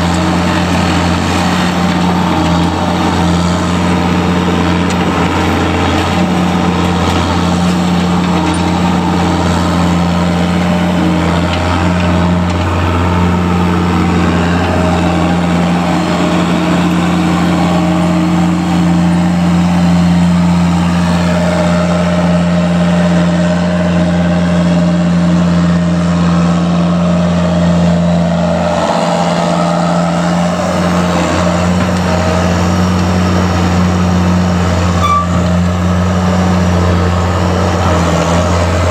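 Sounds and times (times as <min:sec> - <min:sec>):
large vehicle engine running: 0:00.0 - 0:38.9.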